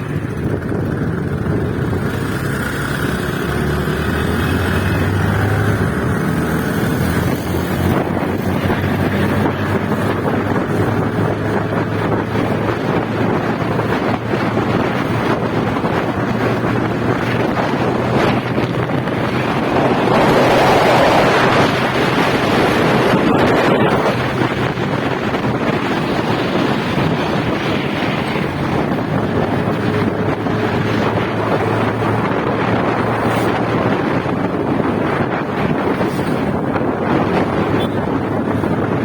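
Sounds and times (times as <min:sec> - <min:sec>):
motorcycle engine drone: 0:00.0 - 0:39.0
wind rushing over microphone: 0:00.0 - 0:39.0.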